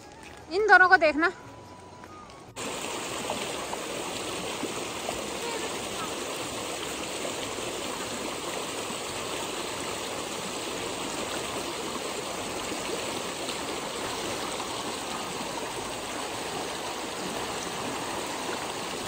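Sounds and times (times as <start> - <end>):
stream rushing: 2.6 - 19.0.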